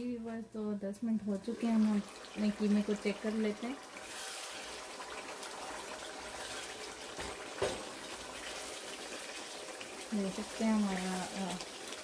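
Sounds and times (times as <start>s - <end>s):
curry bubbling in a pot: 1.4s - 12.0s.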